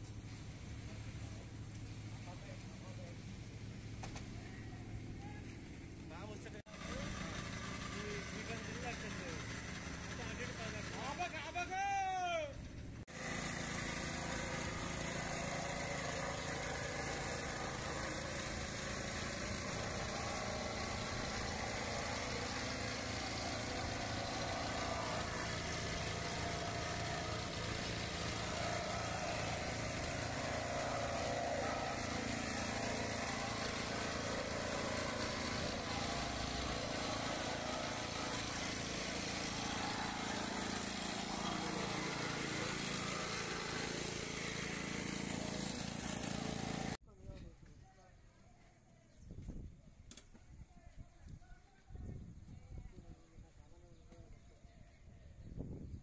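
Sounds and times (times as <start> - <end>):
concrete vibrator engine running: 0.2 - 47.0.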